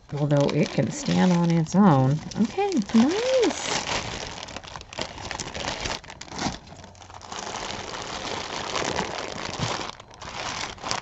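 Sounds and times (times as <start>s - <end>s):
jewelry rustling and crinkling: 0.0s - 11.0s.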